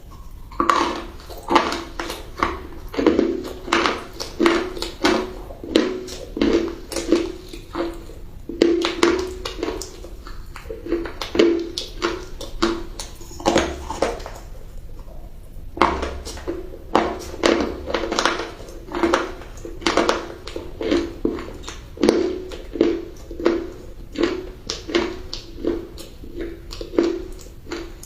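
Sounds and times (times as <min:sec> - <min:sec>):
crunchy food being chewed: 0:00.0 - 0:28.0.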